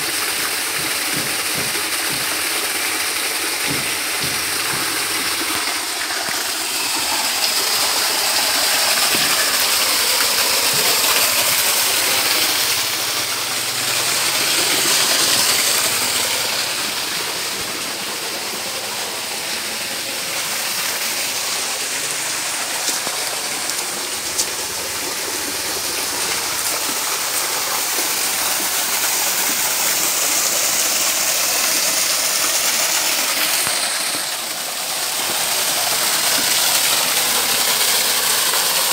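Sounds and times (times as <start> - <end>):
water gushing into a pond: 0.0 - 38.9.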